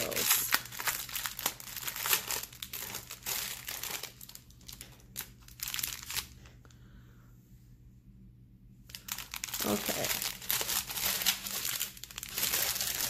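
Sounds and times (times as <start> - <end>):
plastic bag crinkling: 0.0 - 6.6, 8.9 - 13.0.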